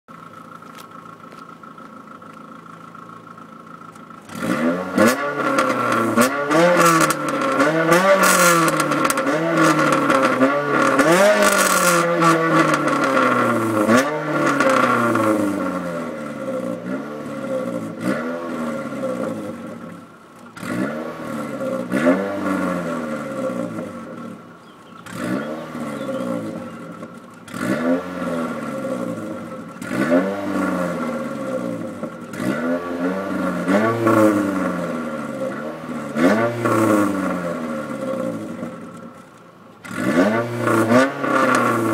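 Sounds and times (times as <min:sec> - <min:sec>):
car engine revving: 0:02.0 - 0:41.9.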